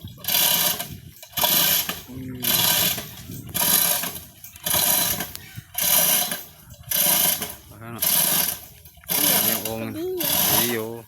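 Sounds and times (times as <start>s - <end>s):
excavator working under strain: 0.0s - 11.0s.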